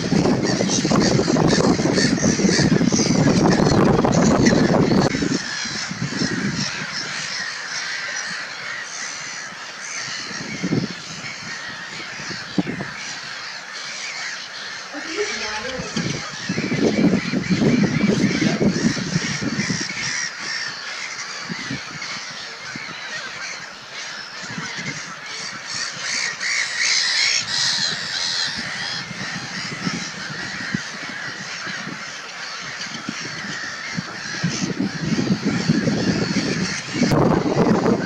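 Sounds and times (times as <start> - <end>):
high chattering bird calls: 0.0 - 38.0
waterbirds honking and cawing: 0.0 - 38.0.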